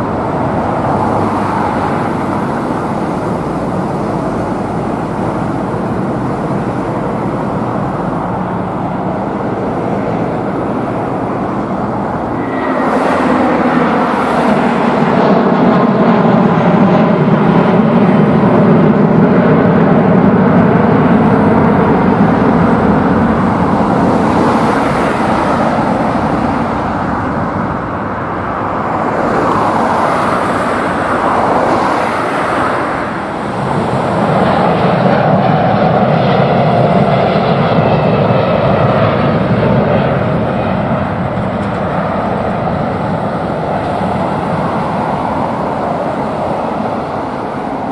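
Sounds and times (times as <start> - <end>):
jet engines of airliner climbing: 0.0 - 47.9.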